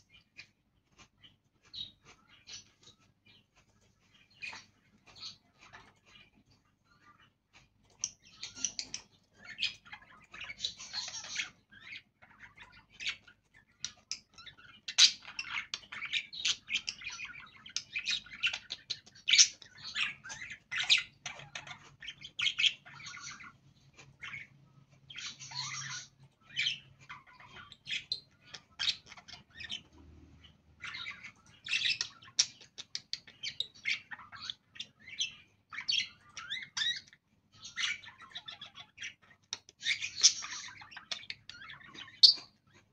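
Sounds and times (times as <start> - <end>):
budgerigars chattering: 4.1 - 42.9.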